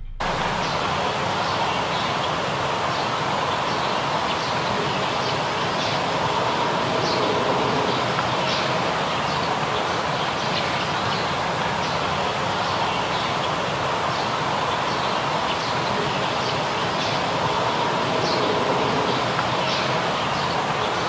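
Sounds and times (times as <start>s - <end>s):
steady background hiss: 0.2s - 21.0s.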